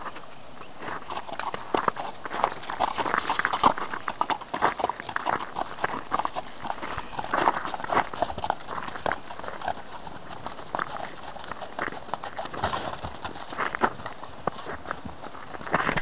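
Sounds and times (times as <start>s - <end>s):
hooves crunching on snow: 0.0s - 16.0s.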